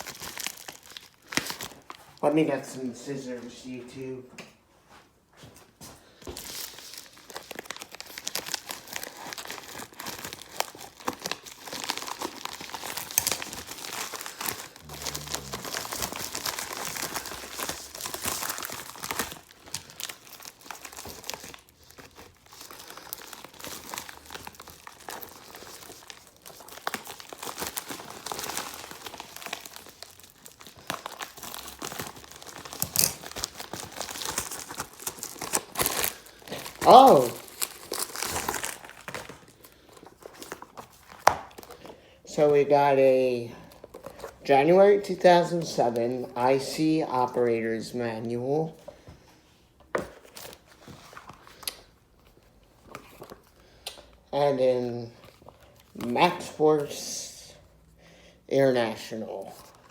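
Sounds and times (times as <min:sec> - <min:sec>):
packaging crinkling and tearing: 0:00.0 - 0:02.4, 0:06.2 - 0:42.4, 0:43.6 - 0:47.4, 0:49.9 - 0:54.3, 0:55.0 - 0:57.0, 0:59.0 - 0:59.9.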